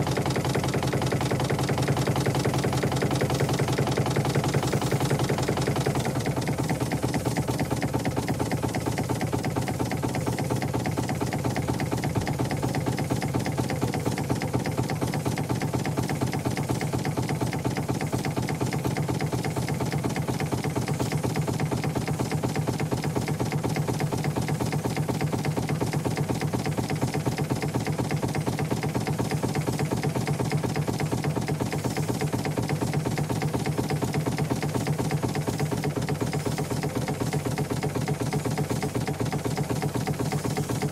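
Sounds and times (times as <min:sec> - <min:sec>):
steam engine running: 0:00.0 - 0:40.9.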